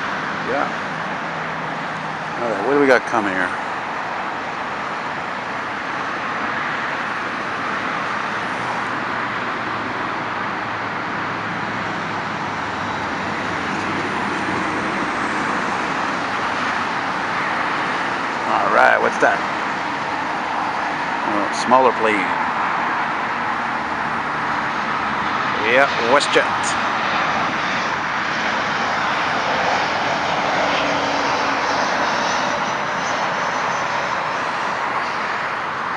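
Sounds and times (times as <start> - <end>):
highway traffic roar: 0.0 - 35.9
jet engines rushing: 0.0 - 35.9.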